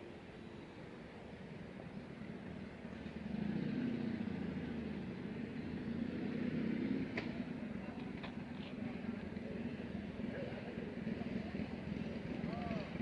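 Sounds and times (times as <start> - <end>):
engine low hum: 0.0 - 13.0.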